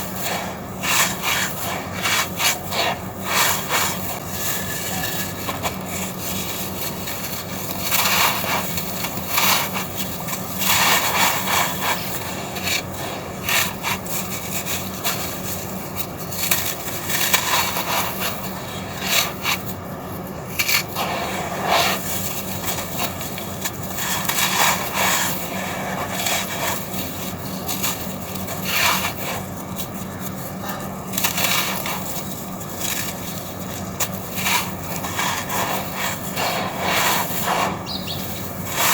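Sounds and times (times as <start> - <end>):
gritty crunching and scraping: 0.0 - 38.9.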